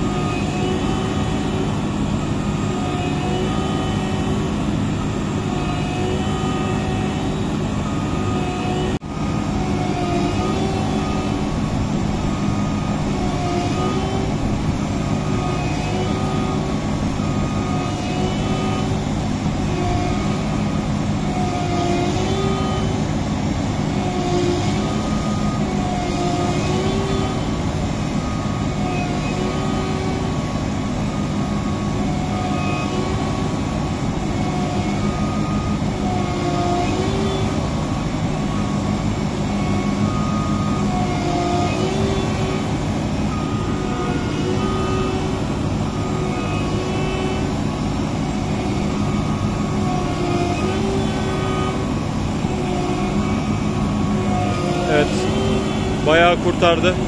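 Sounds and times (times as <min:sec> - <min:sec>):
combine harvester engine drone: 0:00.0 - 0:57.0
wavering whine: 0:00.0 - 0:57.0.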